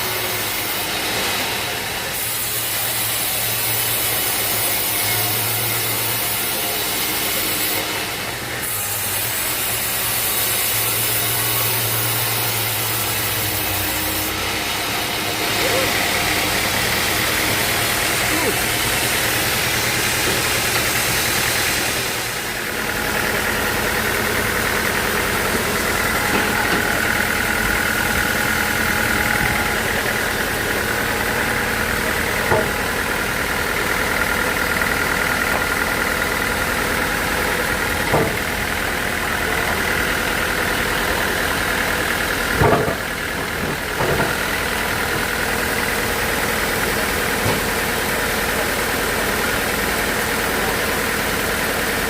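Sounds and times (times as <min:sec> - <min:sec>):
high machine whine: 0:00.0 - 0:52.0
sawmill machinery drone: 0:00.0 - 0:52.0.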